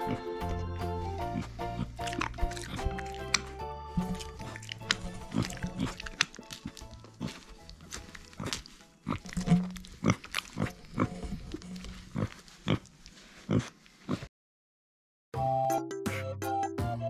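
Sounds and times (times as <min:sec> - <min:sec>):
background music: 0:00.0 - 0:12.3, 0:15.4 - 0:17.0
pig grunting: 0:00.0 - 0:14.3
pig snuffling: 0:00.0 - 0:14.3.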